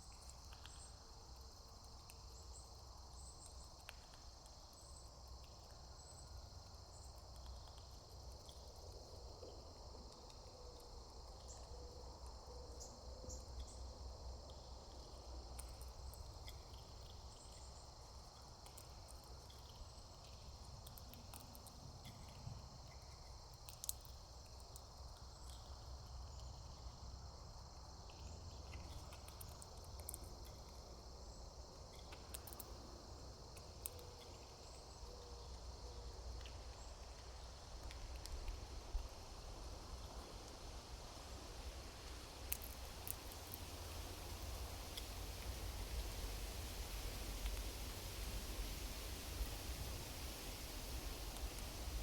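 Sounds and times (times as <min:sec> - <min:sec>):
insect chorus chirring: 0:00.0 - 0:52.0.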